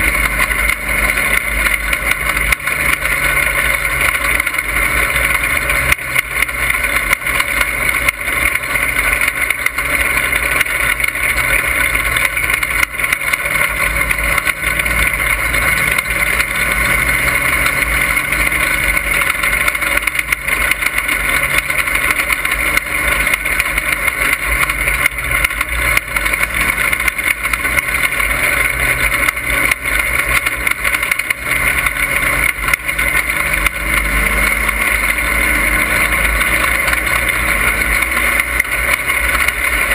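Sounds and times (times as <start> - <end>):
race car engine droning: 0.0 - 39.9
road and wind noise: 0.0 - 39.9.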